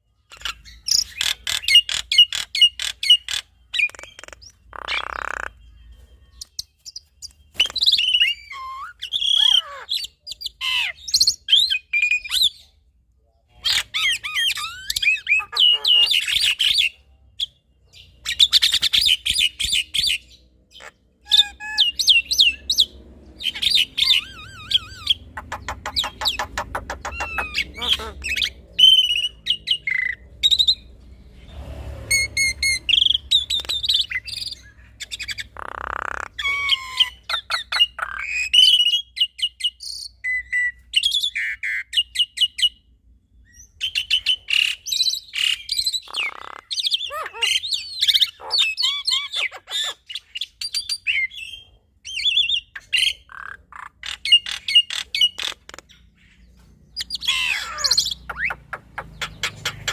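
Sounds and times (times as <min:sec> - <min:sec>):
harsh rasping bird calls: 0:00.0 - 0:12.7, 0:13.6 - 0:42.8, 0:43.5 - 0:59.9
birds singing in duet: 0:00.0 - 0:12.8, 0:13.6 - 0:31.2, 0:32.2 - 0:59.9.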